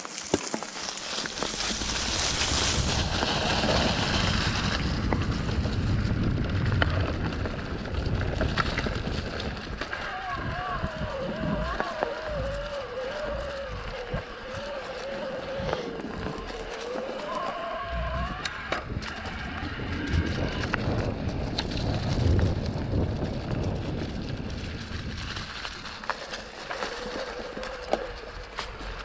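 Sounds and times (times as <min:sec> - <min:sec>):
tyres rumbling on dirt trail: 0:00.0 - 0:29.0
electric bike motor whining: 0:01.8 - 0:29.0.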